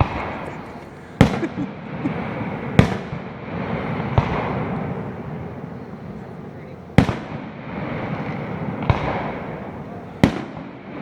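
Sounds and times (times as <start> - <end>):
fireworks booming: 0.0 - 11.0
low rumble of fireworks display: 0.0 - 11.0.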